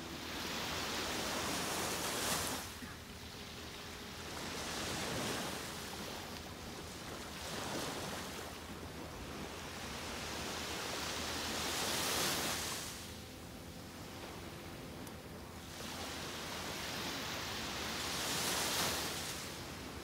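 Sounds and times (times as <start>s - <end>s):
small waves washing up a beach: 0.0s - 20.0s.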